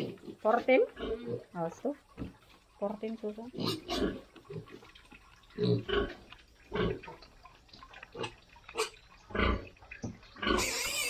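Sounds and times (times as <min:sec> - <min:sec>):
pigs grunting: 0:00.0 - 0:02.5, 0:03.4 - 0:07.3, 0:08.0 - 0:11.0.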